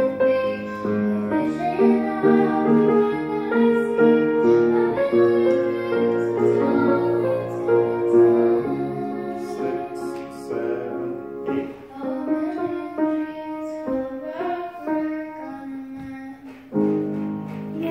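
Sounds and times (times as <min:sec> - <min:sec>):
girl singing into a microphone: 0:00.0 - 0:10.8, 0:11.6 - 0:17.9
grand piano: 0:00.0 - 0:17.9.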